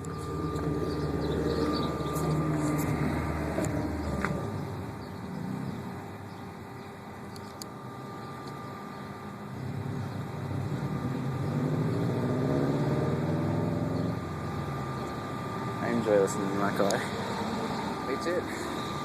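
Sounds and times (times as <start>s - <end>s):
car engine pulling under load: 0.0s - 19.0s
faint steady whine: 0.0s - 19.0s.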